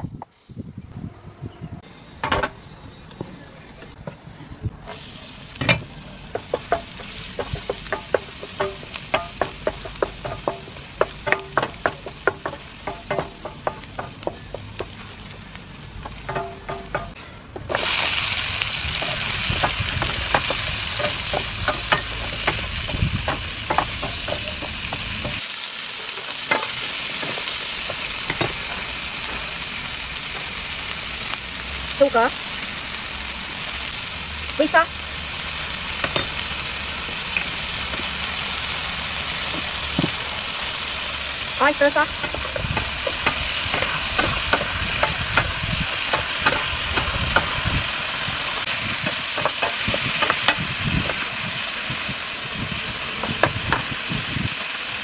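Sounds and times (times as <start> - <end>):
garlic sizzling in hot oil: 4.8 - 55.0
vegetables stir-fried: 4.8 - 55.0.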